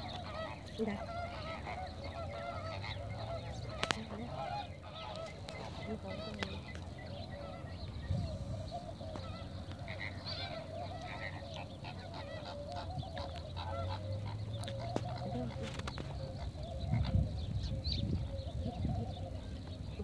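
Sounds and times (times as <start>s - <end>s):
waterbirds honking and chattering: 0.0s - 20.0s.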